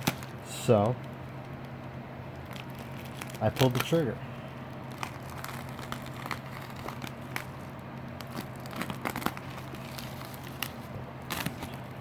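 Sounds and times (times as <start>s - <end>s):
packaging crinkling and tearing: 0.0s - 1.7s, 2.3s - 12.0s.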